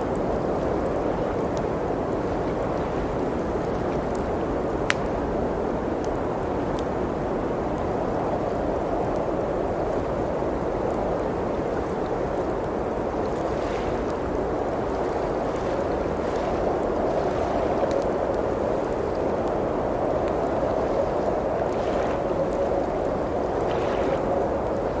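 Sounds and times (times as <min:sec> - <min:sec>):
blizzard wind rushing: 0:00.0 - 0:25.0
log fire crackling: 0:00.0 - 0:25.0.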